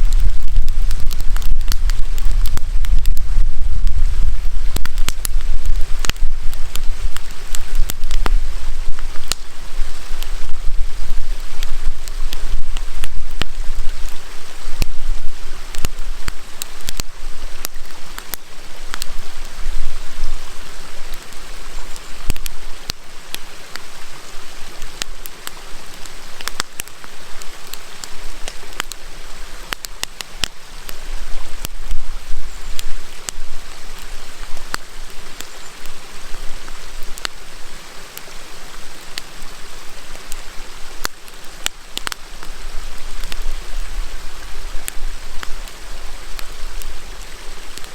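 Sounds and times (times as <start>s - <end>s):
campfire crackling and popping: 0.0s - 47.9s
river flowing: 0.0s - 47.9s.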